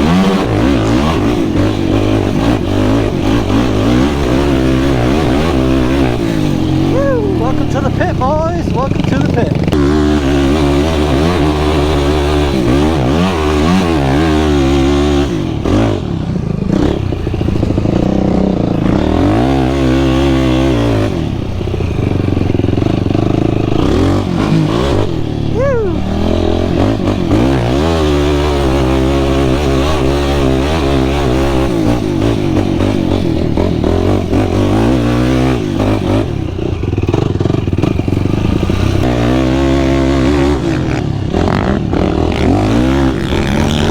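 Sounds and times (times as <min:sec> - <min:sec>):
quad engine revving: 0:00.0 - 0:43.9.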